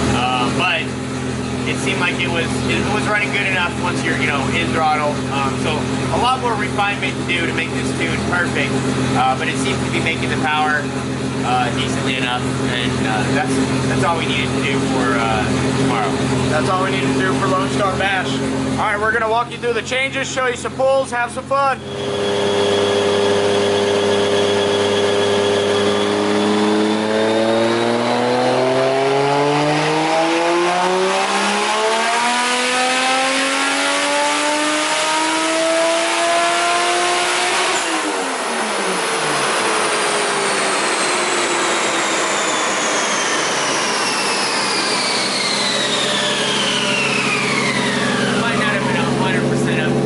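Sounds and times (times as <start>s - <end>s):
car engine revving on dyno: 0.0s - 50.0s
high whine of rollers: 0.0s - 50.0s.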